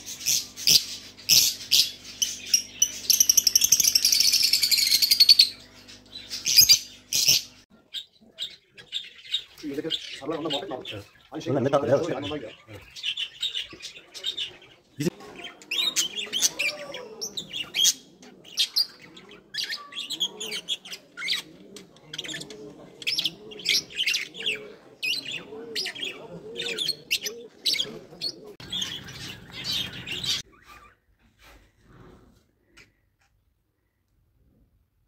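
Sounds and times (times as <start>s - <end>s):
small birds chirping: 0.0s - 31.7s.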